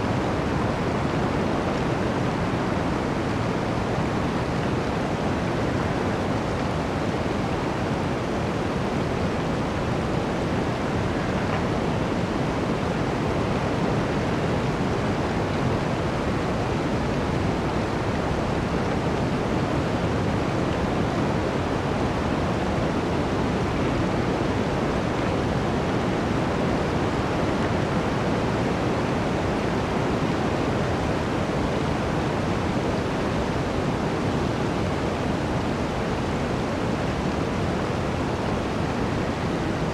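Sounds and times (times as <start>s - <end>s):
blizzard wind through forest: 0.0s - 39.9s.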